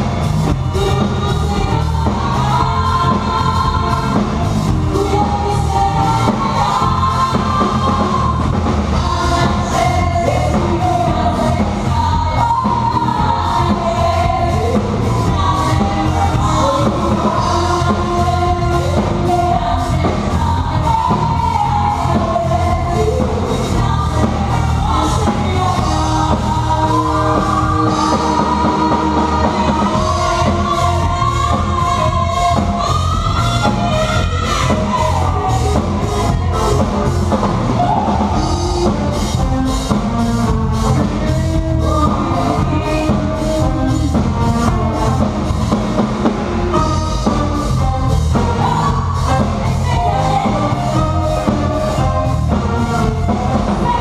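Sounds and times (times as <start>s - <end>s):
rock song with singer: 0.0s - 54.0s.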